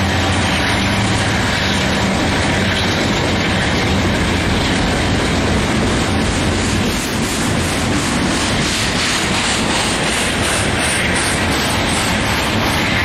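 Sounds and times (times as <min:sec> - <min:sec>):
steel wheels on rail: 0:00.0 - 0:13.0.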